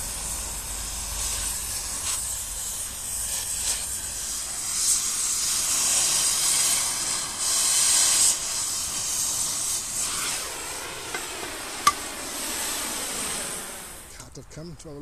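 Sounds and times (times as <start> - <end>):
cutting torch hissing: 0.0 - 15.0.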